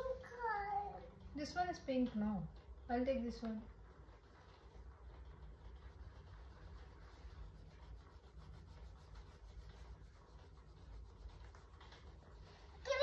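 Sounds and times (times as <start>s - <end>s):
crayons scratching on paper: 0.0s - 13.0s.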